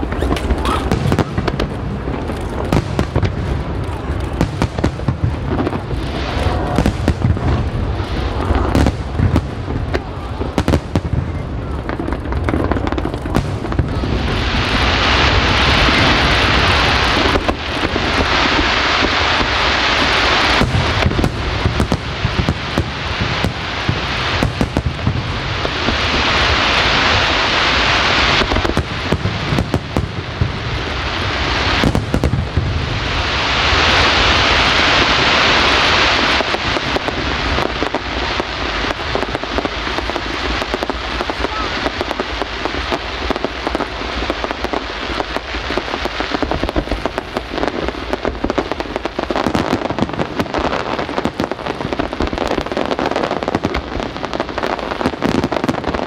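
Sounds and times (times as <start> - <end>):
fireworks bursting in bangs: 0.0 - 56.0
fireworks crackling: 0.0 - 56.0.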